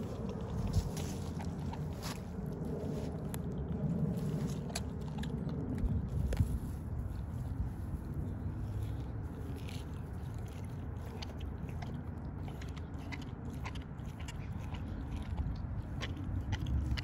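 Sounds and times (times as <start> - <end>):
puppy chewing and crunching bone: 0.0 - 17.0.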